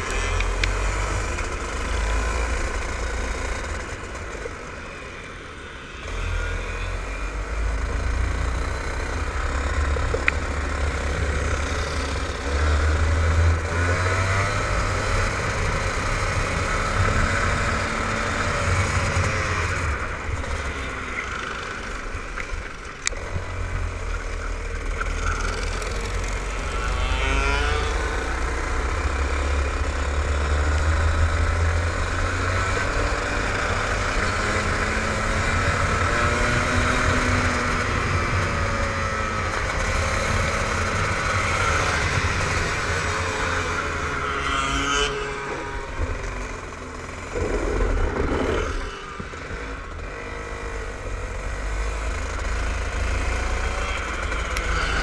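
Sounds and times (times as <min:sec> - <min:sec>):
kart engine at racing speed: 0:00.0 - 0:55.0.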